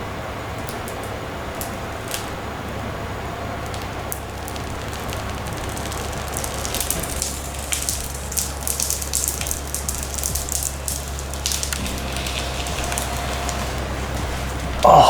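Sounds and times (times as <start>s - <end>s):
plastic film peeling crackle: 0.6s - 15.0s.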